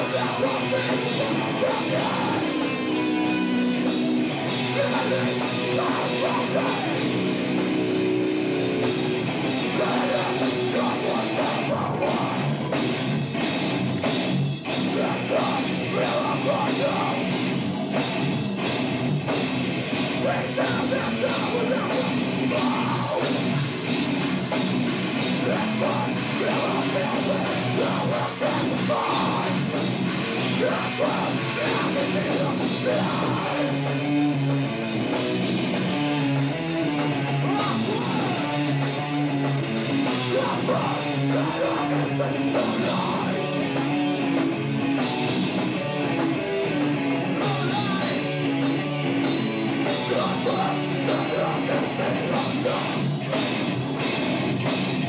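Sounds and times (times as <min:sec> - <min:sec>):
vocals: 0:00.0 - 0:12.8, 0:14.7 - 0:17.7, 0:20.0 - 0:23.9, 0:25.2 - 0:35.1, 0:36.2 - 0:44.8, 0:46.7 - 0:53.4
distorted guitars: 0:00.0 - 0:55.0
drums: 0:00.0 - 0:55.0.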